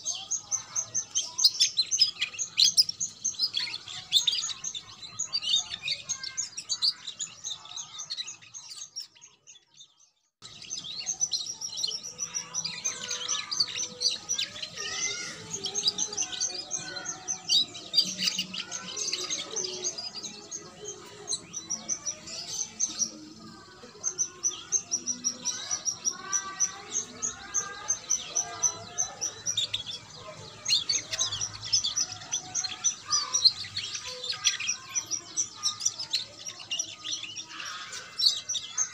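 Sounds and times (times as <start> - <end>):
canary singing chirps and trills: 0.0 - 38.9.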